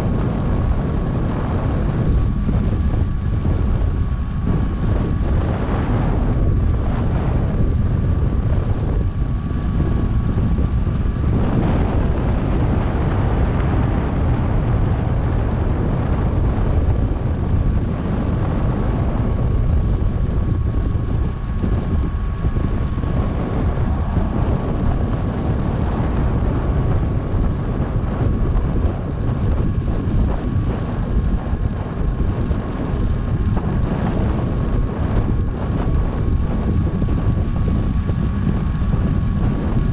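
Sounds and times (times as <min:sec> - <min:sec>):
faint thin whine: 0:00.0 - 0:39.9
wind buffeting microphone: 0:00.0 - 0:39.9.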